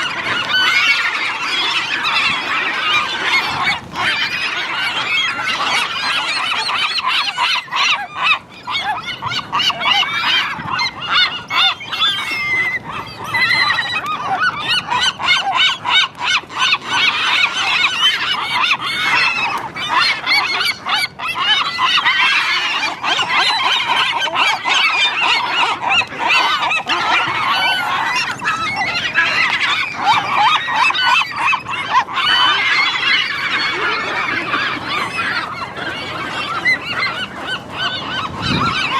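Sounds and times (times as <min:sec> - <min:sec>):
seagulls squawking: 0:00.0 - 0:38.9.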